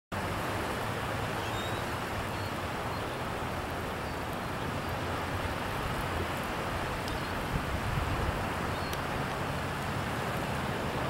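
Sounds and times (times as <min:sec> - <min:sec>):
choppy lake water: 0:00.1 - 0:11.0.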